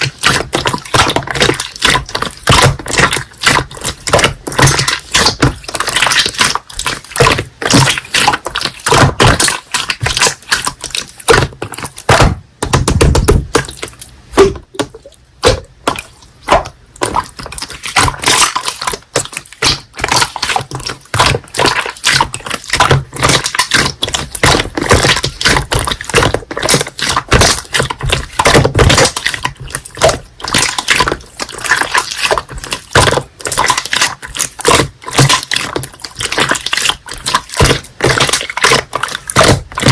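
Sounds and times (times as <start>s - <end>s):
slime being squished: 0.0s - 39.9s.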